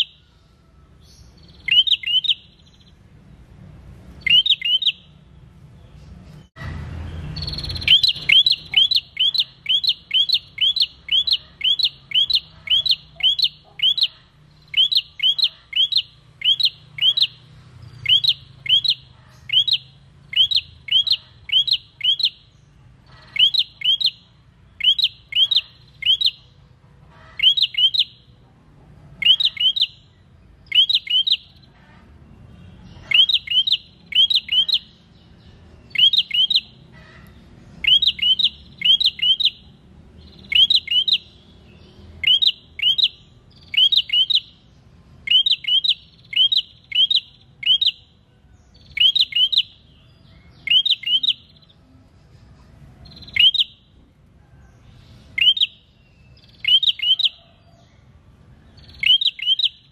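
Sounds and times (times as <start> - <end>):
bird chirping: 0.0 - 28.4, 29.1 - 52.0, 53.0 - 54.1, 54.7 - 59.9.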